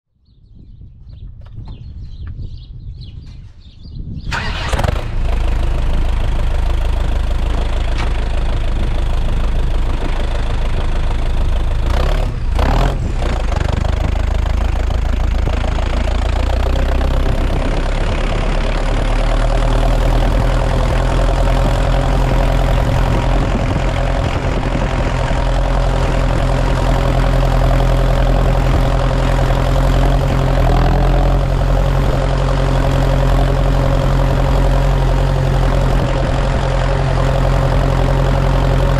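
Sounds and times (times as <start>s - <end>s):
tractor diesel engine running: 4.2s - 38.9s.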